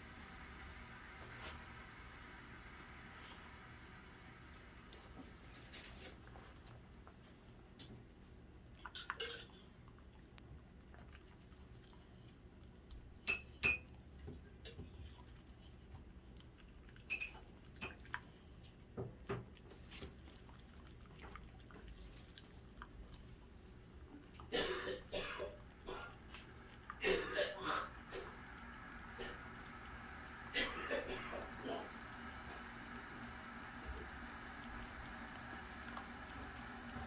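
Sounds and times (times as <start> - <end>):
dog eating: 4.8 - 37.0.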